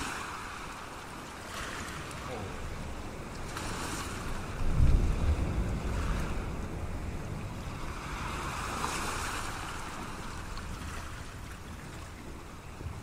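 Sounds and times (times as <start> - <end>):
sea surf washing: 0.0 - 13.0
wind rumbling on microphone: 0.0 - 13.0.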